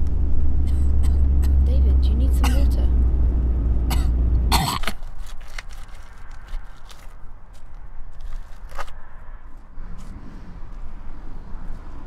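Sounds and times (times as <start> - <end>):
car engine and road hum: 0.0 - 12.0
quiet outdoor ambience: 0.0 - 12.0.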